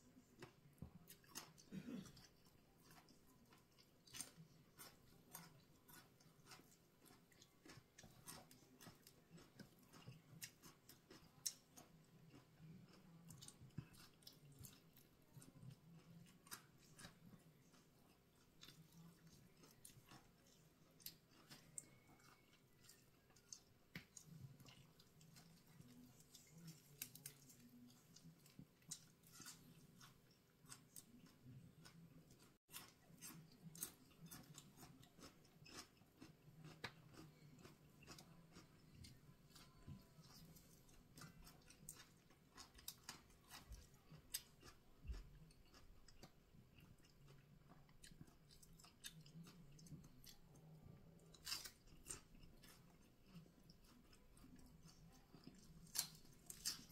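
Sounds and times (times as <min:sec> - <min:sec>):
person chewing food: 0:00.0 - 0:56.9.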